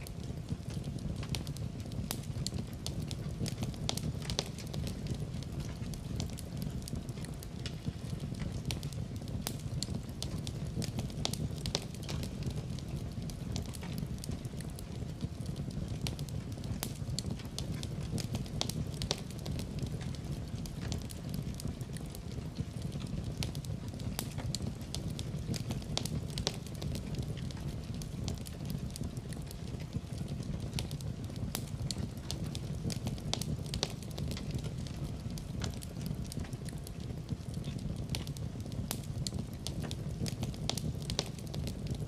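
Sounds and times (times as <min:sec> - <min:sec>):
fire crackling and popping: 0:00.0 - 0:42.0
fire flames rumbling: 0:00.0 - 0:42.0.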